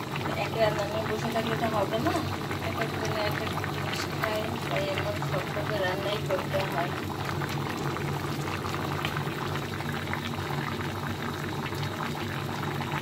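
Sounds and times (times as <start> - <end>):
curry bubbling in a pan: 0.0 - 13.0.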